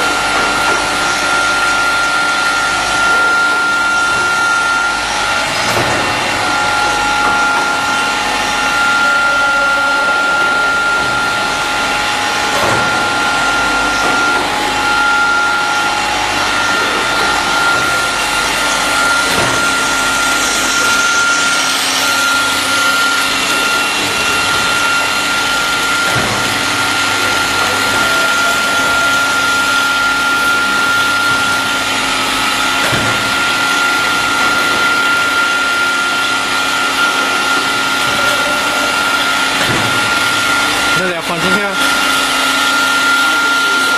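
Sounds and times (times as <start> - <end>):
cutting machine whine: 0.0 - 43.9
rushing machine noise: 0.0 - 43.9.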